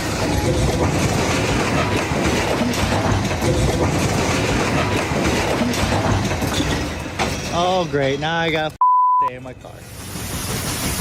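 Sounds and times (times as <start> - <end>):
train wheels clattering over rails: 0.0 - 8.2, 9.6 - 11.0.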